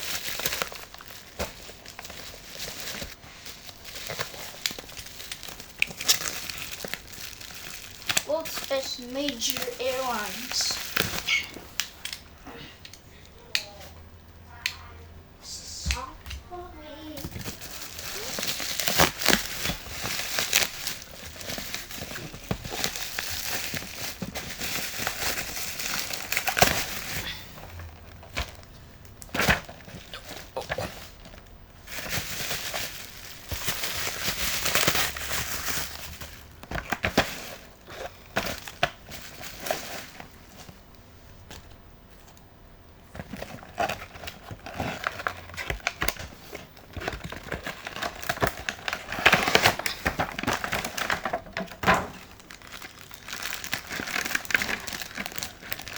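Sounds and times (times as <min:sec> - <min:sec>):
packaging crinkling and rustling: 0:00.0 - 0:14.0, 0:15.9 - 0:55.9.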